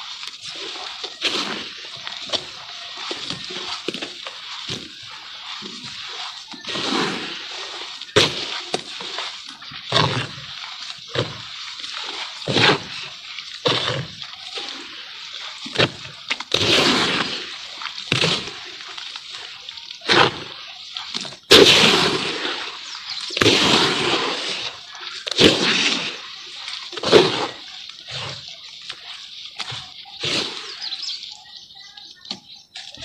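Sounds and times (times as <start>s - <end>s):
charcoal crumbling in water: 0.0s - 29.9s
water splashing and sloshing: 0.0s - 33.0s.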